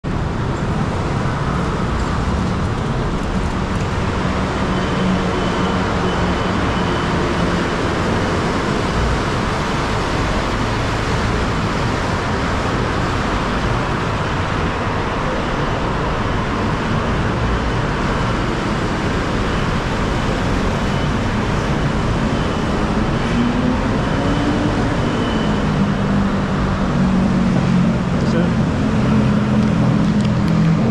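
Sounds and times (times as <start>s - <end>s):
city traffic noise: 0.0s - 30.9s
vehicle engine rising in pitch: 4.0s - 30.9s.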